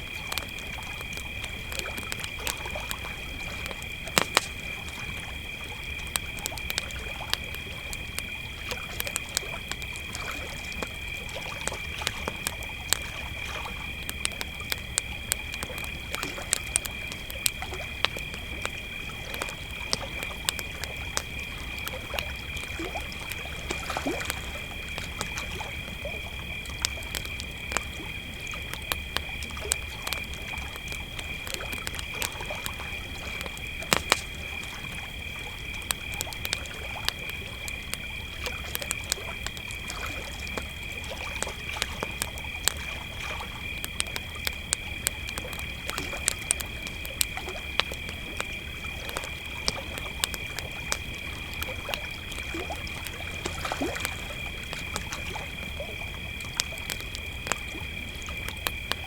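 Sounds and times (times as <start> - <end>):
campfire popping and crackling: 0.0 - 59.0
crickets trilling: 0.0 - 59.0.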